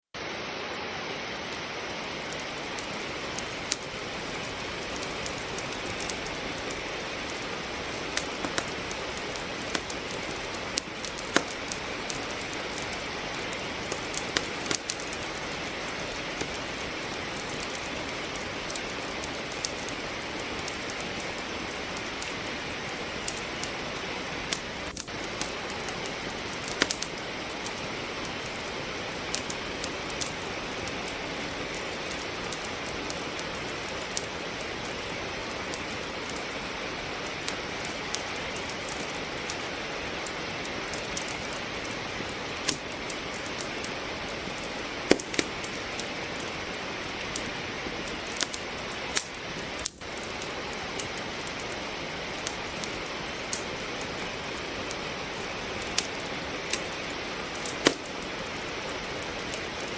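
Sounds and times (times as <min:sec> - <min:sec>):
steady rain hiss: 0:00.0 - 0:59.9
wood fire crackling: 0:00.2 - 0:59.9.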